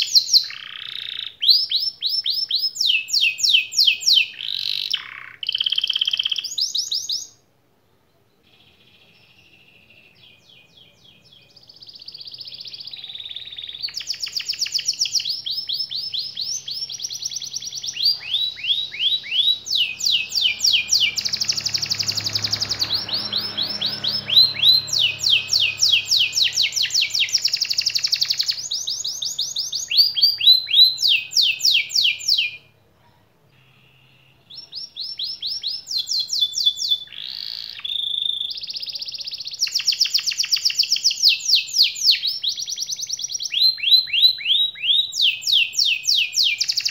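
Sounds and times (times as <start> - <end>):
canary singing trills: 0.0 - 7.4, 8.1 - 32.8, 33.5 - 46.9.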